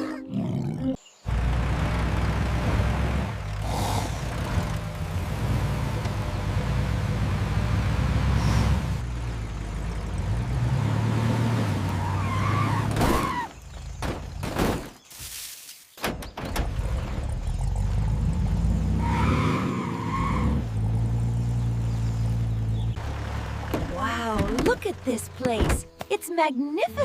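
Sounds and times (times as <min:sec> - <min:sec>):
vehicle engine rumbling: 0:01.0 - 0:15.1, 0:16.0 - 0:26.0.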